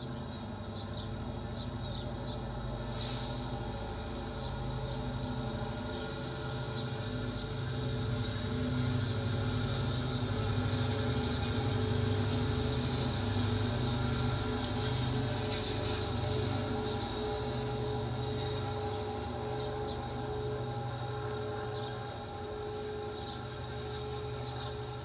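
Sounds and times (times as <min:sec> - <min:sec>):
diesel locomotive engines droning: 0:00.0 - 0:25.0.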